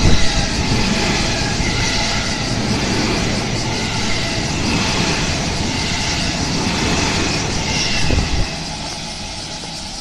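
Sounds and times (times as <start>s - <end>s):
train rushing past: 0.0s - 10.0s.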